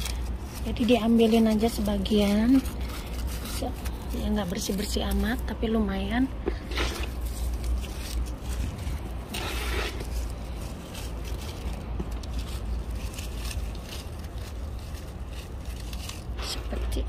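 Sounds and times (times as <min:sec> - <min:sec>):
hand scraping dry leaves: 0:00.0 - 0:17.0
leaves and grit crunching: 0:00.0 - 0:17.0
steady low rumble: 0:00.0 - 0:17.0.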